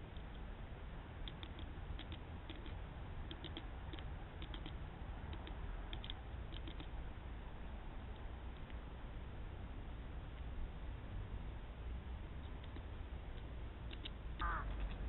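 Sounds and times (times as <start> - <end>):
faint high ticks of birds: 0.0 - 10.6, 12.3 - 15.0
microphone hiss: 0.0 - 15.0.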